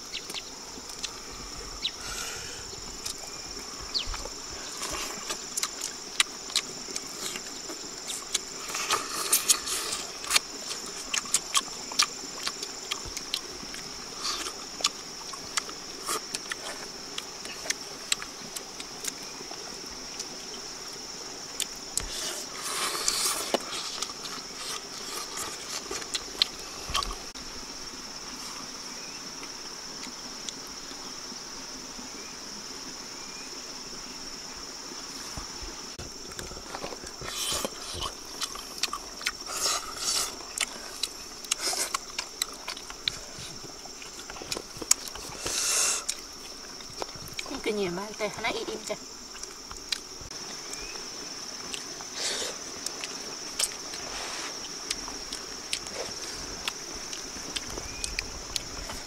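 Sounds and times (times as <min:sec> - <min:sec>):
insects droning: 0:00.0 - 0:59.0
rustling while eating: 0:00.2 - 0:20.4, 0:21.0 - 0:27.3, 0:35.1 - 0:59.0.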